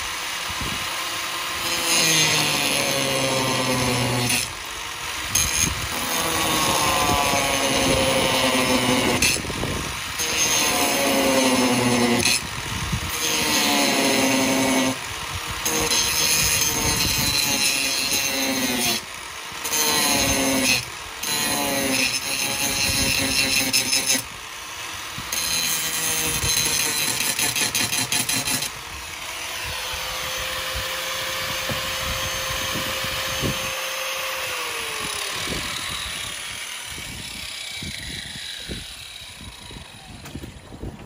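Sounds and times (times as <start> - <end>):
angle grinder cutting metal: 0.0 - 40.8.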